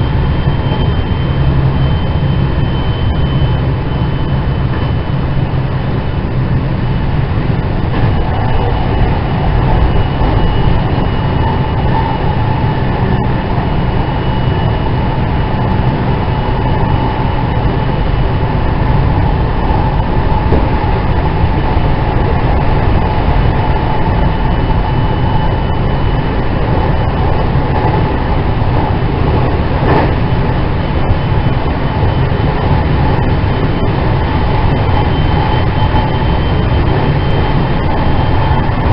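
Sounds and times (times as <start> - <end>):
faint steady whine: 0.0 - 38.9
train wheels rumbling on rail: 0.0 - 38.9.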